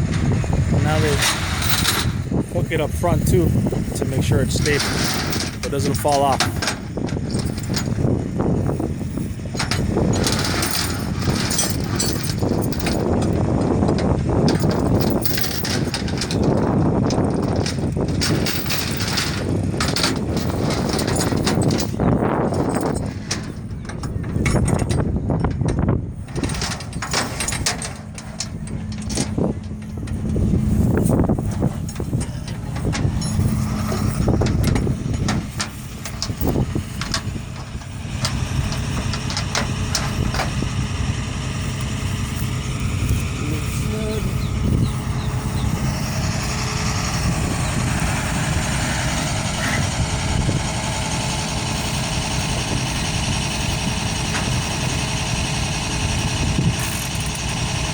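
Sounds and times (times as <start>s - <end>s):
metallic clanks and knocks: 0.0s - 57.9s
truck engine running: 0.0s - 57.9s
metal hooks clinking: 0.8s - 40.8s, 41.6s - 48.4s, 56.2s - 57.7s.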